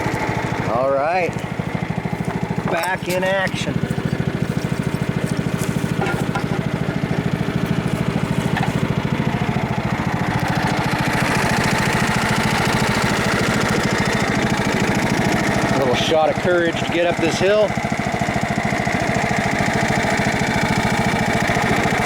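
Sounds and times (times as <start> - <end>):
riding lawn mower engine: 0.0 - 22.0.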